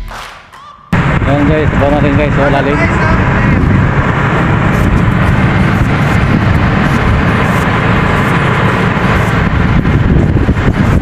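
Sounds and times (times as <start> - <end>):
excavator engine running: 0.9 - 11.0.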